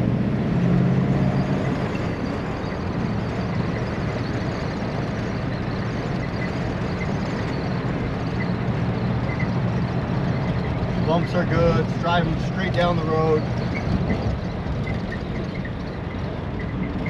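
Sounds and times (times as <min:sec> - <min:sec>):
road and engine noise in car: 0:00.0 - 0:17.0.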